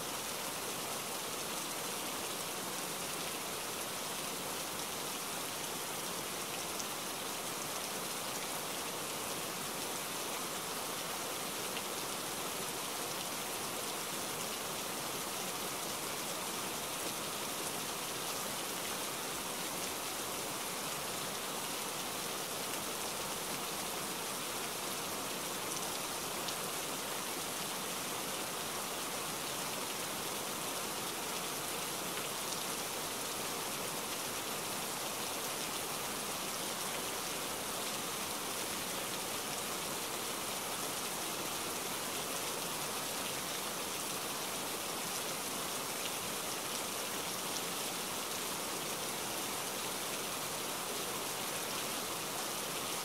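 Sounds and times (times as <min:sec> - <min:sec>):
rain on wet pavement: 0:00.2 - 0:53.0.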